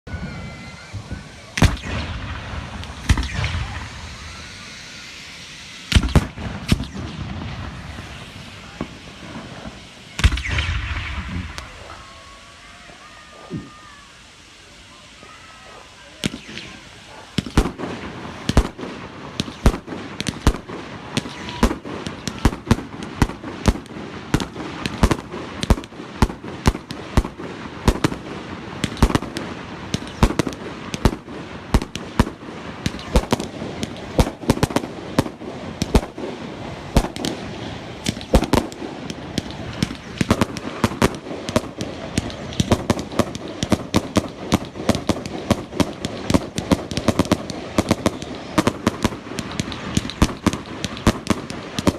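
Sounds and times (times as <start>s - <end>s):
fireworks bangs: 0.0s - 51.9s
fireworks crackle: 0.0s - 51.9s.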